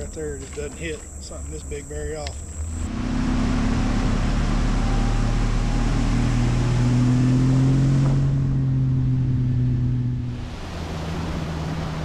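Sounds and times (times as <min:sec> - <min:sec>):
outboard motor drone: 0:02.2 - 0:12.0.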